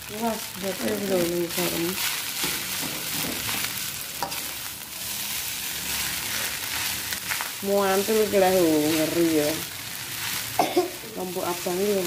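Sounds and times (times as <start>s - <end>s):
rice sizzling in a hot pan: 0.0s - 12.0s.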